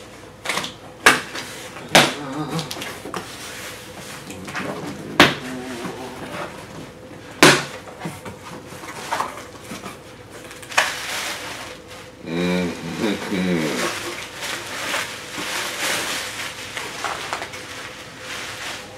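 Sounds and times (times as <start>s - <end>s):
bubble wrap crinkling: 1.4s - 7.0s, 8.6s - 18.9s.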